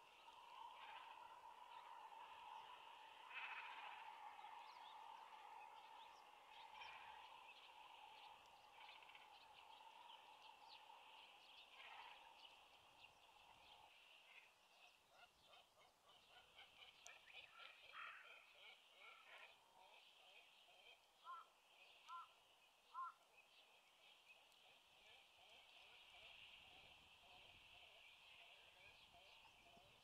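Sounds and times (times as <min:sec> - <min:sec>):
chorus of distant animal calls: 0:00.0 - 0:30.0.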